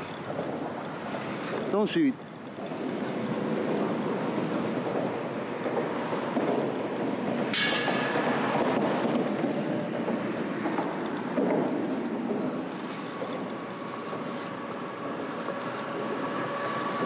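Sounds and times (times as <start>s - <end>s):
wind and sea: 0.0s - 17.0s.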